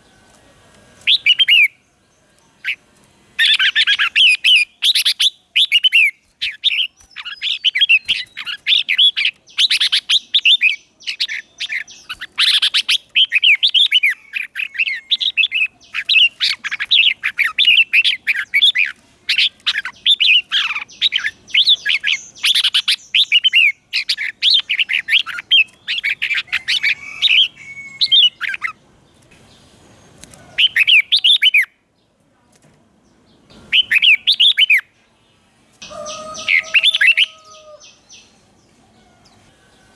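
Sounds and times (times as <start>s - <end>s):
bulbul singing: 1.0s - 2.8s, 3.4s - 28.8s, 33.5s - 35.0s, 35.8s - 39.4s.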